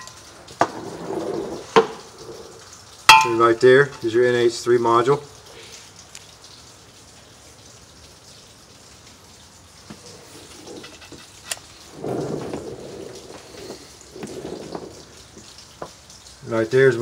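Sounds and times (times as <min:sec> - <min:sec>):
crackly hiss: 0:00.0 - 0:17.0.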